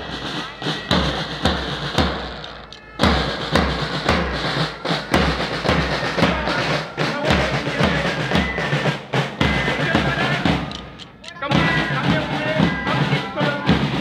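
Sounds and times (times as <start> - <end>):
marching band drums: 0.0 - 14.0
wind instruments melody: 0.0 - 14.0.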